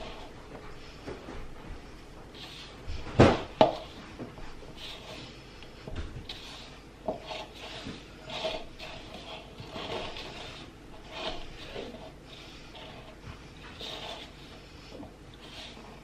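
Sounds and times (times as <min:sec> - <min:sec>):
dough squelching in a bowl: 0:00.0 - 0:16.0.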